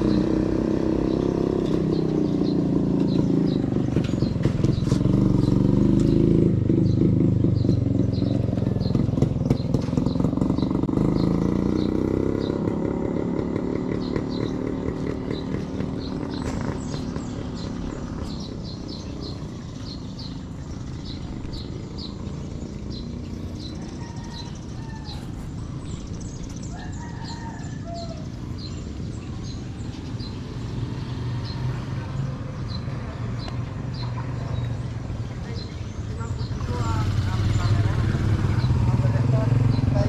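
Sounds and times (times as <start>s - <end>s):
birds chirping: 0.0s - 40.0s
vehicle engine: 0.0s - 40.0s.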